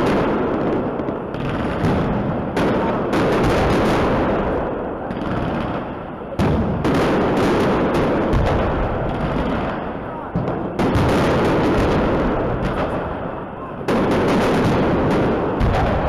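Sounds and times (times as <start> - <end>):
firework crackling: 0.0 - 16.0
firework shells booming: 0.0 - 16.0.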